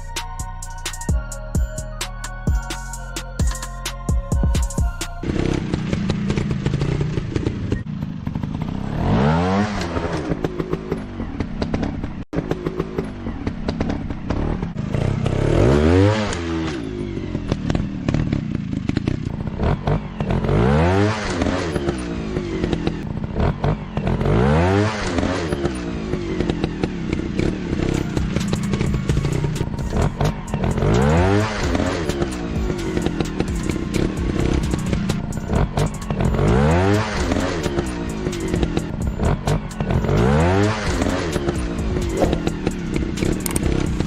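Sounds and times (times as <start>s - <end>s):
dirt bike engines revving: 5.2s - 44.0s.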